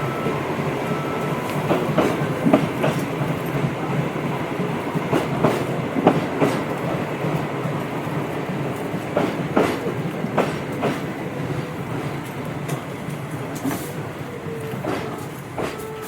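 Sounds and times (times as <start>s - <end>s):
electric train running: 0.0s - 16.0s
wheels clicking over rail joints: 0.0s - 16.0s.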